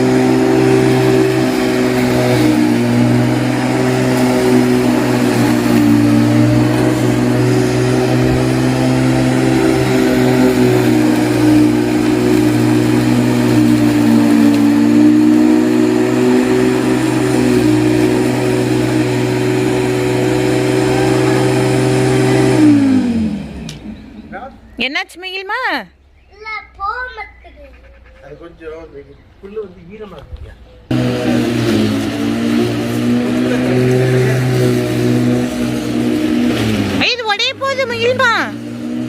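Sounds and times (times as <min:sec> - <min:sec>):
lawn mower running: 0:00.0 - 0:25.8, 0:30.9 - 0:39.0.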